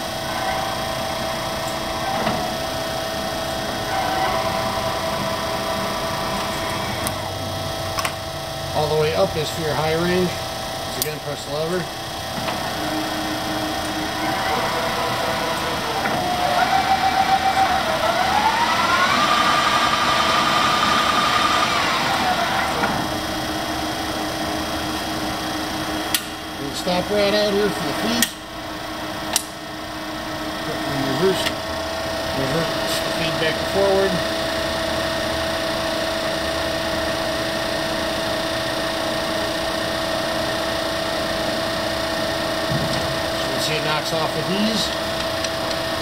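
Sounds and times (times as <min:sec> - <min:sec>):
lathe gear whine: 0:00.0 - 0:46.0
low machine hum: 0:00.0 - 0:46.0.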